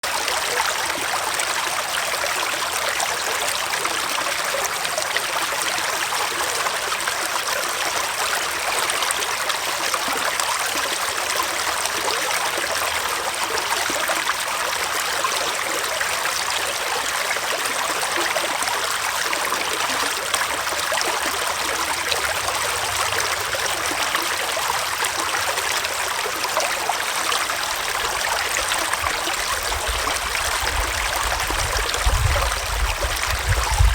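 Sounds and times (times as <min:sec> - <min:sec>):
stream flowing and splashing: 0:00.0 - 0:33.9.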